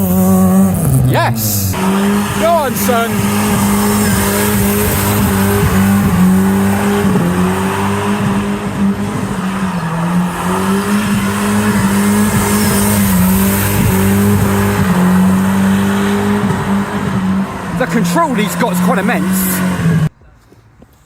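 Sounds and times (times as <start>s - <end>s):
car engine at high revs: 0.0s - 20.1s
tyre squeal: 1.7s - 20.1s.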